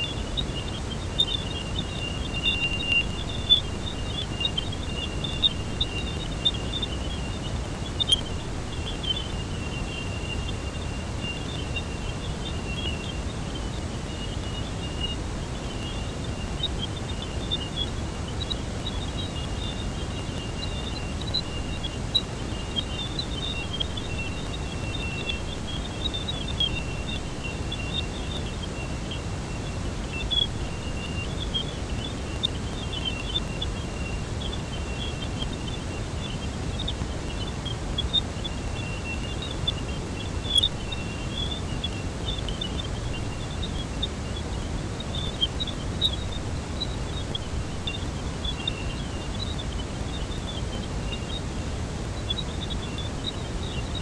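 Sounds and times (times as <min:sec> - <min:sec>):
high chirps: 0:00.0 - 0:51.6
low noisy hiss: 0:00.0 - 0:54.0
thin high steady tone: 0:00.0 - 0:54.0.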